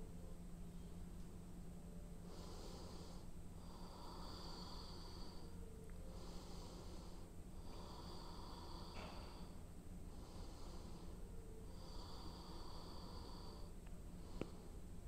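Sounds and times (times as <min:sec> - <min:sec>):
steady low hum: 0:00.0 - 0:15.0
person breathing through nose: 0:02.2 - 0:14.8.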